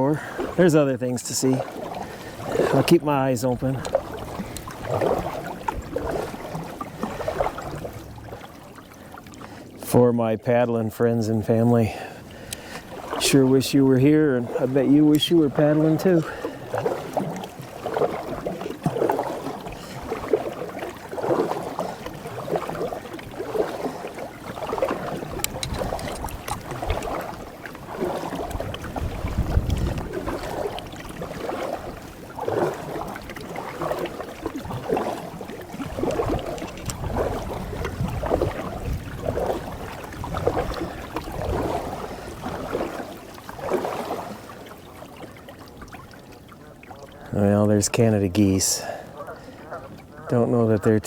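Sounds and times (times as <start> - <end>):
canoe paddle strokes in water: 0.0 - 51.0.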